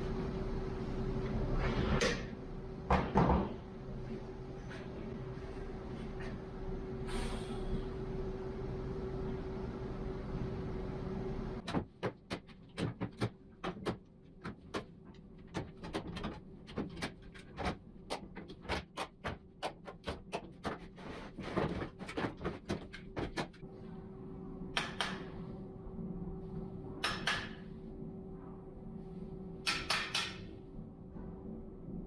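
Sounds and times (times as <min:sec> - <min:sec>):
workshop hum: 0:00.0 - 0:32.0.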